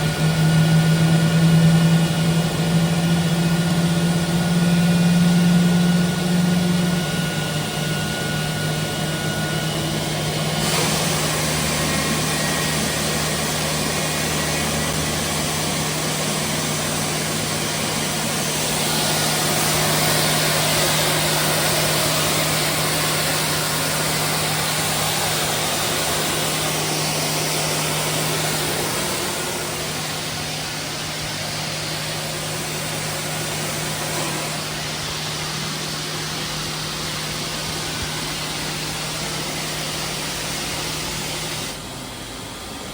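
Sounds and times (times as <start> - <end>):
rushing jet engine noise: 0.0 - 42.9.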